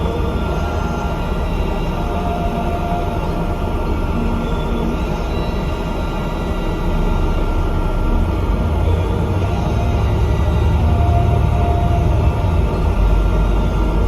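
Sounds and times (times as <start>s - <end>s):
bus engine drone: 0.0s - 14.0s
faint steady whines: 0.0s - 14.0s.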